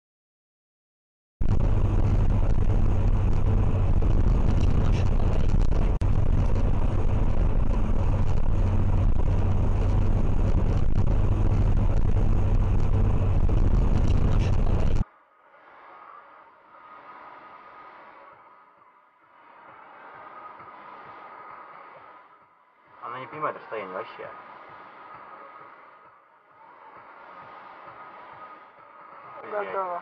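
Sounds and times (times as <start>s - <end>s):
car interior road noise: 1.4s - 30.0s.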